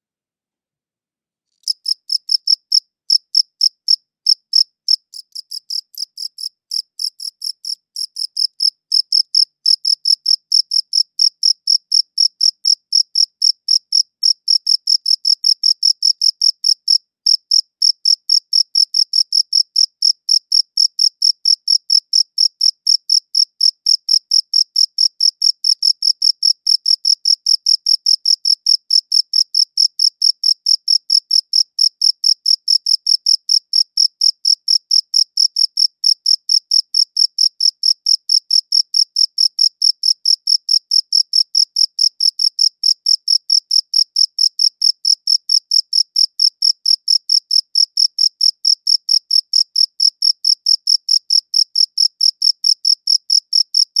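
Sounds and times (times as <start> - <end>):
cricket chirping: 1.6 - 53.9.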